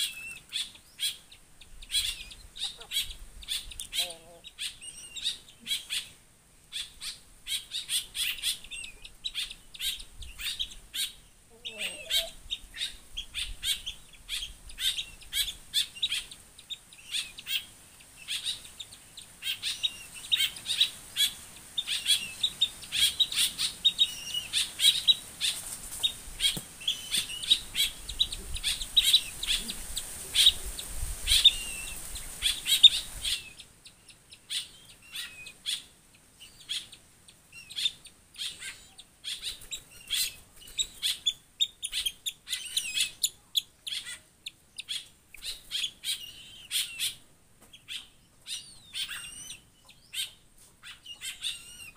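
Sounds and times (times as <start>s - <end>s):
steady hiss: 0.0s - 43.4s
birds chirping: 0.0s - 51.9s.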